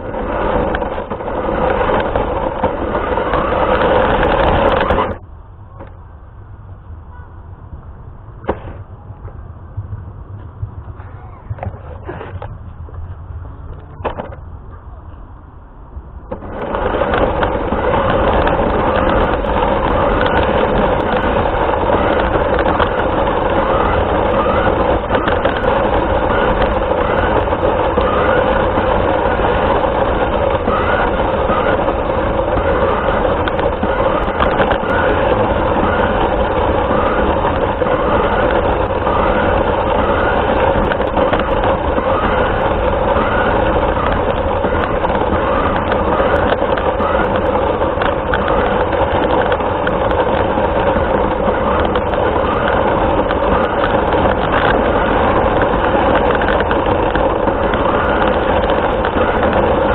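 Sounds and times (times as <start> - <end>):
radio-controlled car running: 0.0 - 6.0, 16.1 - 59.9.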